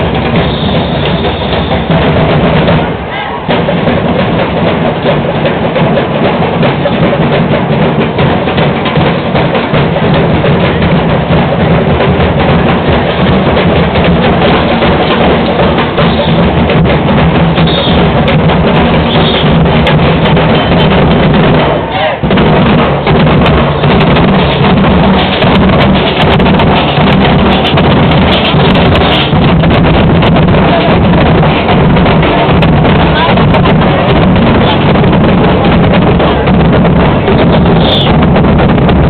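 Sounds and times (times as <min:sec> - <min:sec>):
drum band playing: 0:00.0 - 0:39.0.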